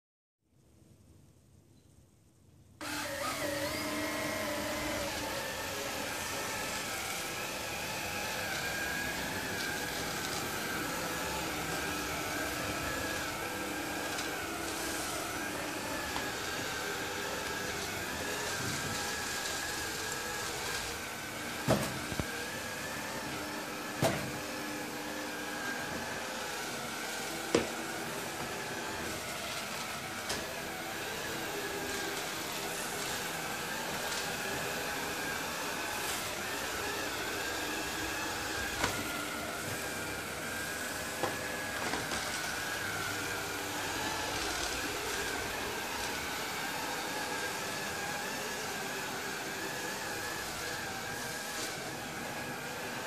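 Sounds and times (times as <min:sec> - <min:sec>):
robot vacuum cleaner humming: 0:02.8 - 0:53.0.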